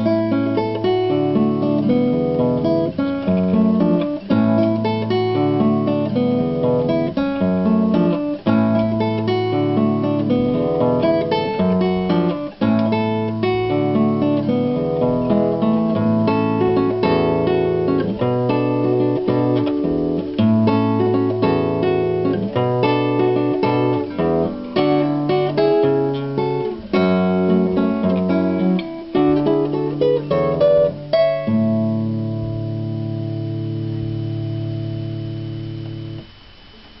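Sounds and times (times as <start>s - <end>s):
fingerpicked classical guitar: 0.0s - 37.0s.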